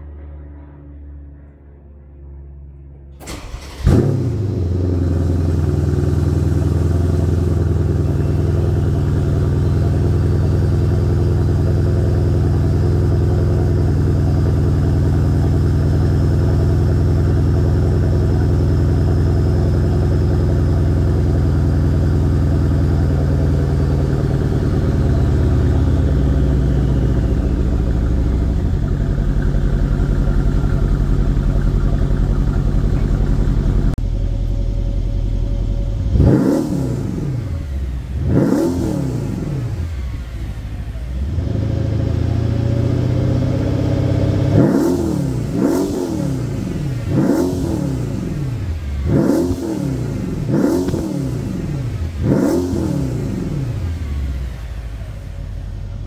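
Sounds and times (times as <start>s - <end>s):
car engine idling: 2.6s - 56.0s
car engine cranking and firing: 3.2s - 56.0s.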